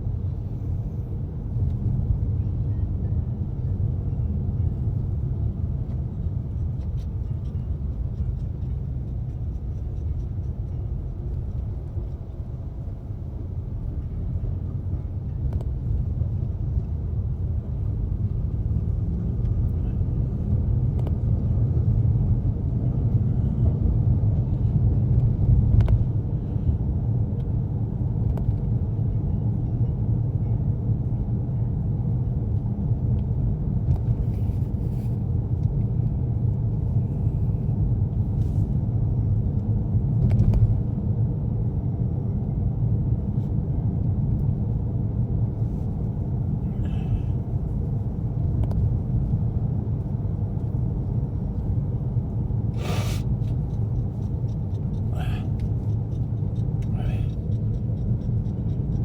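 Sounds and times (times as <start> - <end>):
car engine and road noise rumble: 0.0 - 59.0.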